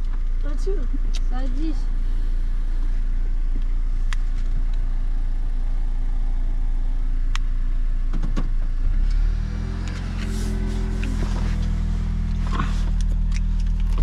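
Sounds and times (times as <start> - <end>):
car engine idling: 0.0 - 14.0
steady hum: 0.1 - 8.4, 10.0 - 14.0.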